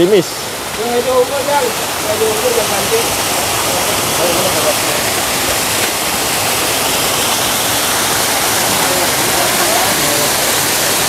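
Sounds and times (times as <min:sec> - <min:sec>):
water pouring into pond: 0:00.0 - 0:11.0.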